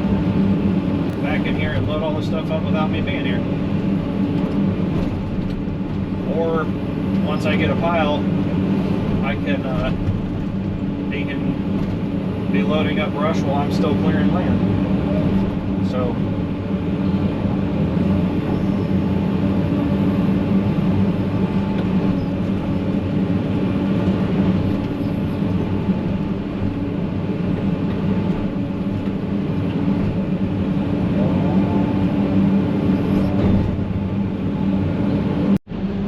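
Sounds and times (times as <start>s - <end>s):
excavator diesel engine humming: 0.0s - 36.0s.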